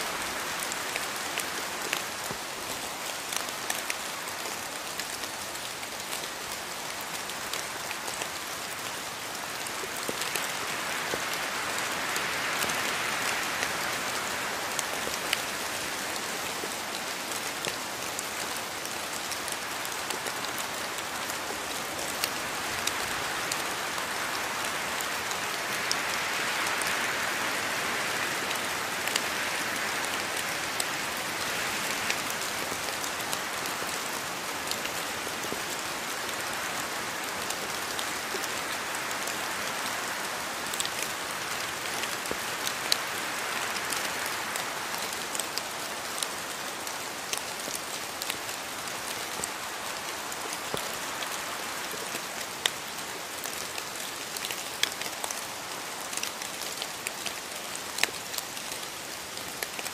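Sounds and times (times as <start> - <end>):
raindrops striking close by: 0.0 - 59.9
steady rainfall: 0.0 - 59.9.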